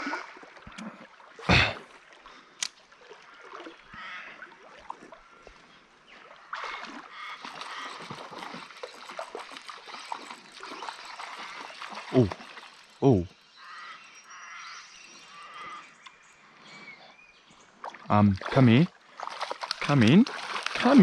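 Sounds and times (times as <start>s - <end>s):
rushing water: 0.0s - 13.7s, 17.6s - 21.0s.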